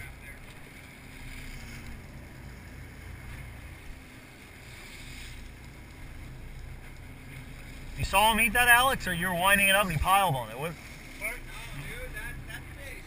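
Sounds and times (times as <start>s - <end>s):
boat diesel engines rumbling: 0.0s - 13.0s
water noise: 0.0s - 13.0s.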